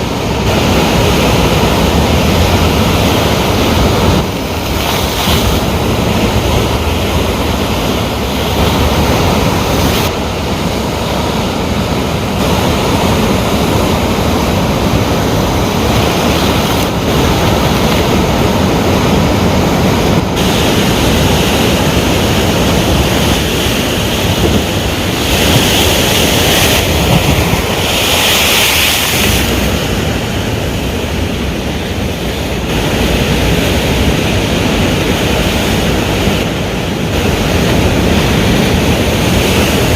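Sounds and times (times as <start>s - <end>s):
ocean waves breaking on shore: 0.0s - 39.9s
wind buffeting microphone: 0.0s - 39.9s.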